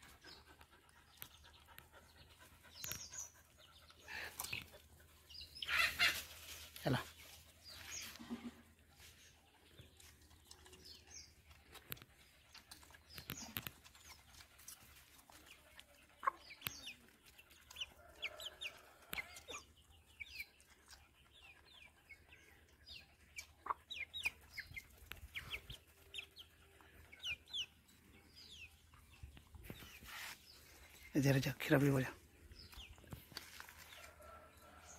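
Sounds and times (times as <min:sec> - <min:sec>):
chickens clucking: 0:00.0 - 0:07.0, 0:07.6 - 0:31.0.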